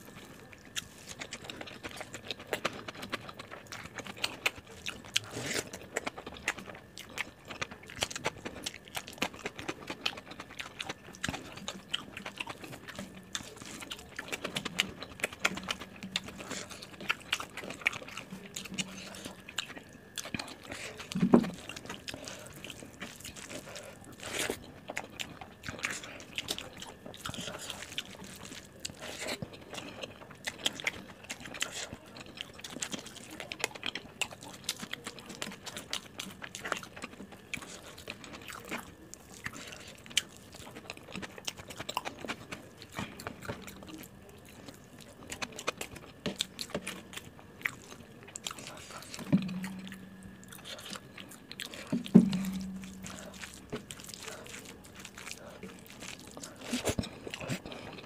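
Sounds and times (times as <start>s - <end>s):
chewing and wet mouth sounds: 0.0s - 58.0s.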